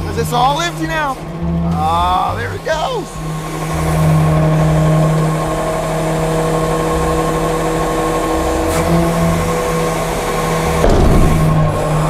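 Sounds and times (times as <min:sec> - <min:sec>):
garbage truck hydraulic hum: 0:00.0 - 0:12.0.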